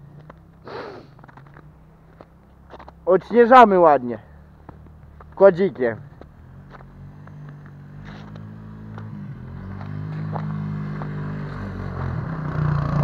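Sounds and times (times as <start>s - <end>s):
quad bike engine: 0.0s - 13.0s.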